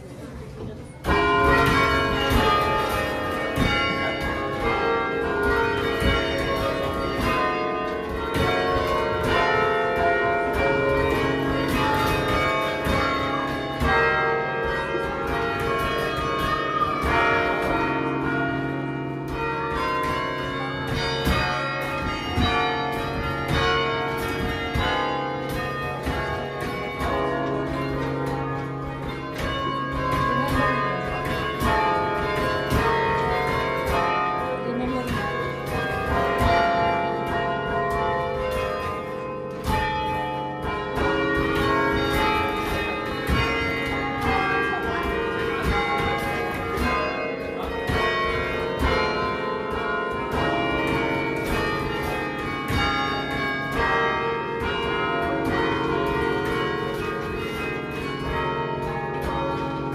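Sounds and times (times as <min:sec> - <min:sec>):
tower bells ringing a melody: 0:01.0 - 0:59.9.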